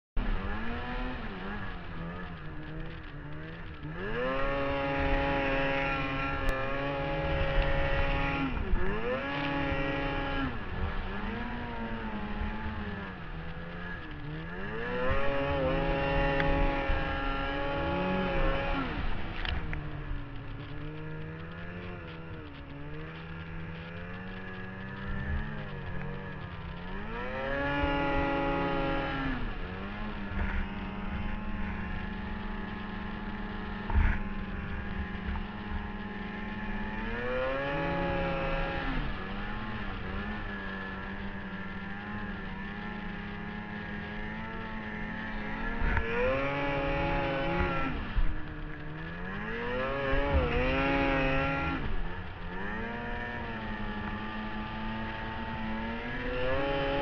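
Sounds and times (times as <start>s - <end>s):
snowmobile engine revving: 0.2s - 57.0s.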